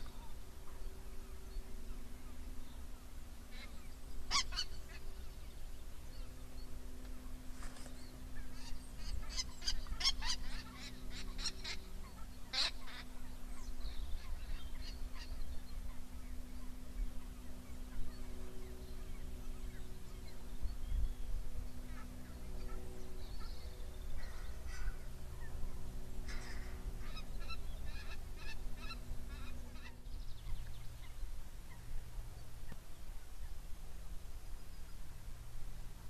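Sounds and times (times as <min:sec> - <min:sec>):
faint steady hum: 0:00.0 - 0:36.0
low wind rumble: 0:00.0 - 0:36.0.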